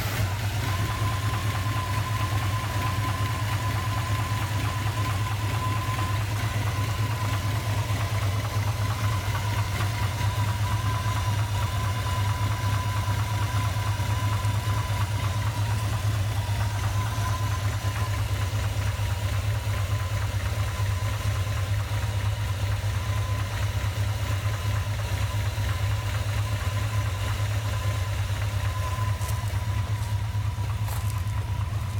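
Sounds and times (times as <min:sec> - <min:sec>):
engine idling with rhythmic knock: 0:00.0 - 0:31.9
faint steady whine: 0:00.0 - 0:31.9.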